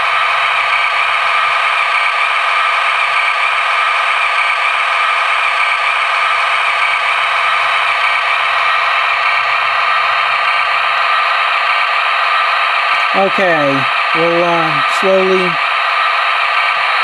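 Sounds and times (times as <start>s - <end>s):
model locomotive engine drone: 0.0s - 17.0s.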